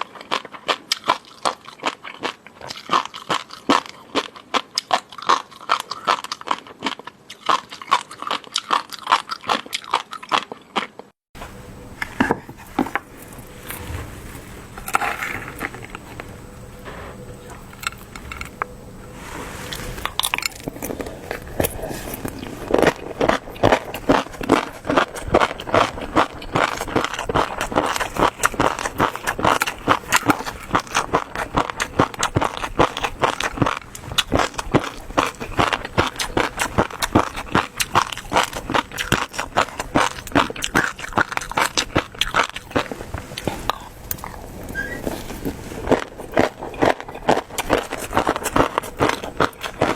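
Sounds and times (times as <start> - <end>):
wet eating clicks and bites: 0.0 - 11.1, 20.1 - 49.9
rhythmic chewing: 0.0 - 49.9.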